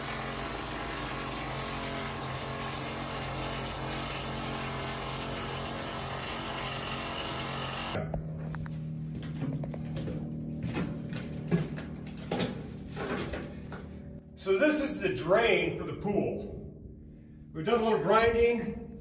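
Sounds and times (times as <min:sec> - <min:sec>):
machine humming: 0:00.0 - 0:15.8.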